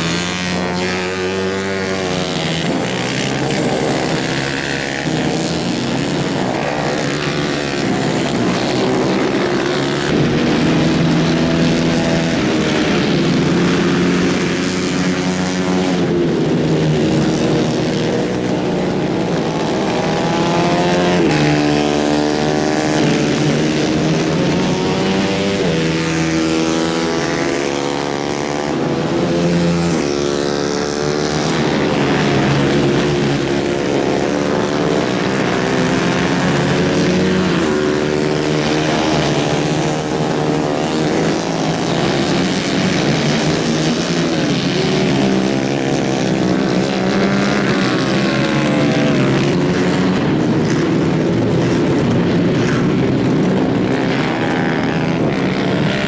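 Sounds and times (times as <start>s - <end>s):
kart engines revving hard: 0.0s - 56.0s.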